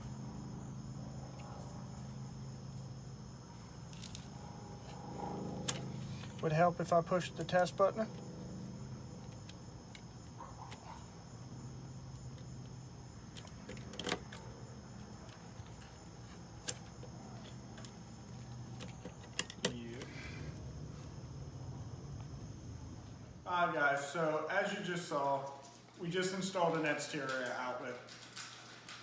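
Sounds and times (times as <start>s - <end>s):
steady low hum: 0.0s - 26.5s.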